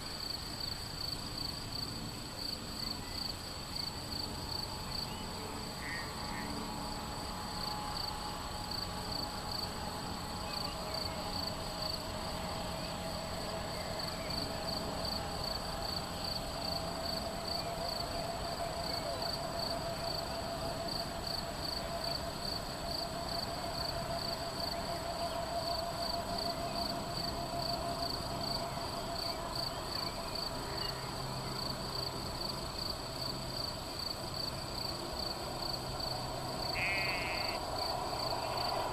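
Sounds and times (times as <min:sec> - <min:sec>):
crickets chirping: 0:00.0 - 0:38.9
faint low wavering hum: 0:00.0 - 0:38.9.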